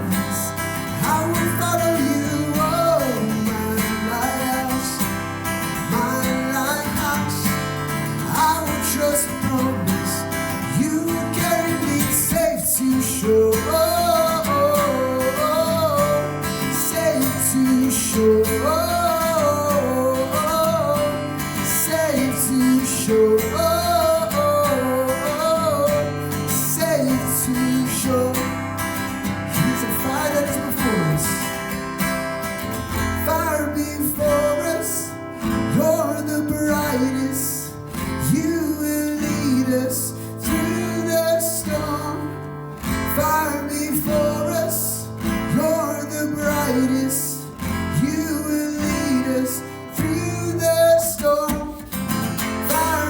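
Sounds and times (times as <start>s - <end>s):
strummed acoustic guitar: 0.0s - 53.0s.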